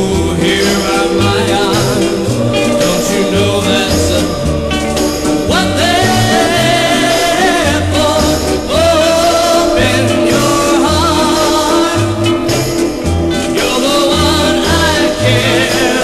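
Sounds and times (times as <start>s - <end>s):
soul ballad record playing: 0.0s - 16.0s
walking bass line: 0.0s - 16.0s.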